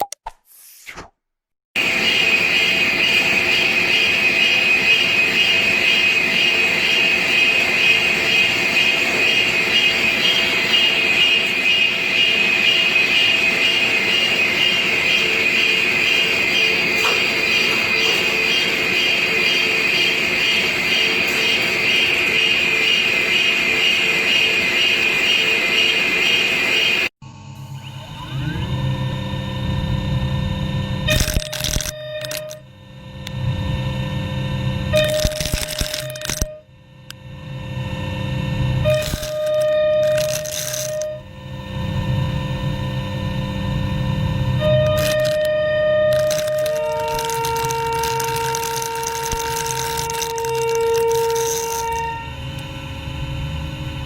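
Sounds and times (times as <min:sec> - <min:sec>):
lathe cutting whine: 0:01.8 - 0:54.0
machine running: 0:01.8 - 0:54.0.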